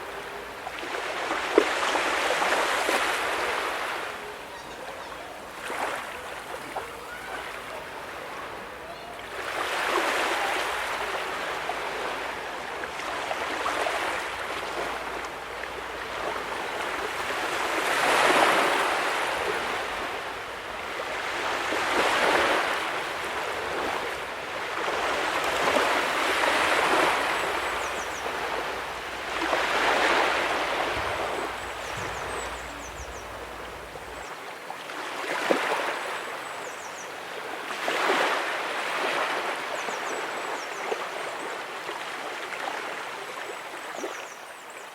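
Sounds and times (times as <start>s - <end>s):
ocean waves breaking on a beach: 0.0s - 44.9s.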